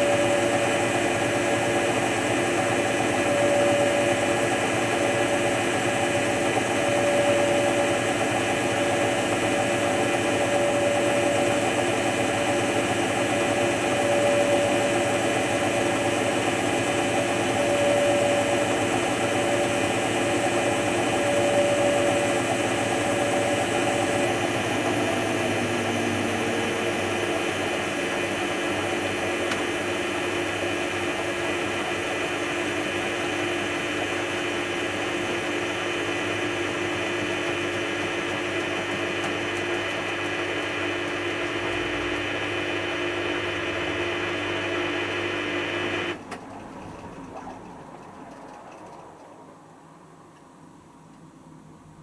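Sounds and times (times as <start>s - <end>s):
washing machine spinning: 0.0s - 52.0s.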